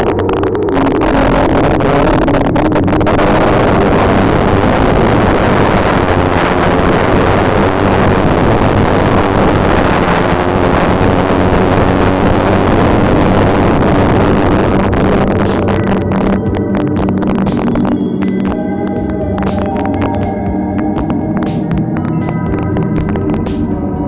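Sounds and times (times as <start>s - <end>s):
noisy analog synthesizer drone: 0.0s - 24.0s.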